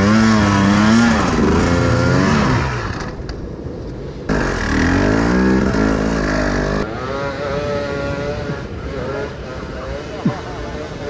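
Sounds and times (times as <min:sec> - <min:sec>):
motorcycle engines revving: 0:00.0 - 0:03.3, 0:04.3 - 0:11.0.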